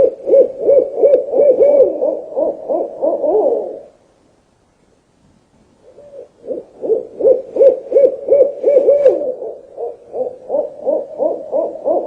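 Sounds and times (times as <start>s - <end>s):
owl hooting: 0.0s - 4.0s, 5.8s - 12.0s.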